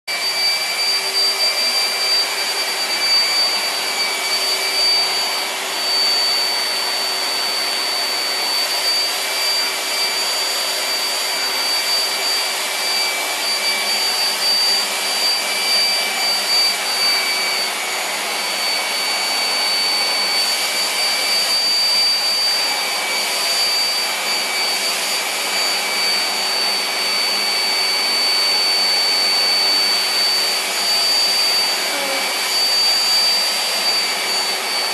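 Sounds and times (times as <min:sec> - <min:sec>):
vacuum cleaner running: 0:00.1 - 0:34.9.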